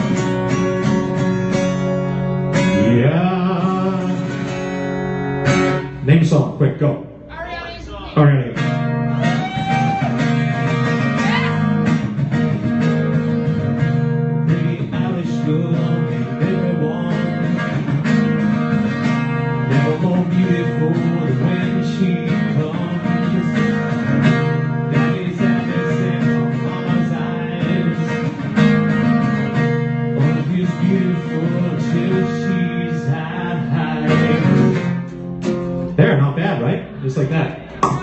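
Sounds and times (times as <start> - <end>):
acoustic guitar strumming: 0.0 - 6.4, 7.1 - 38.0.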